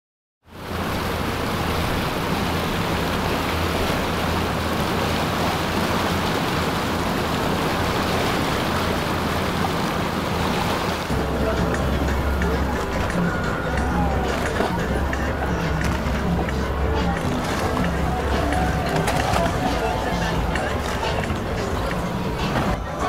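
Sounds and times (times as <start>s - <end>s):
outboard engines humming: 0.4s - 23.0s
water rushing along hull: 0.4s - 23.0s.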